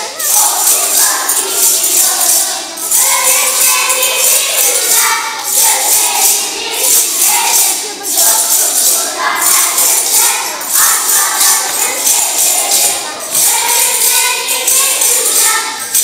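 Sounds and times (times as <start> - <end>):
music with jingling percussion: 0.0 - 16.0.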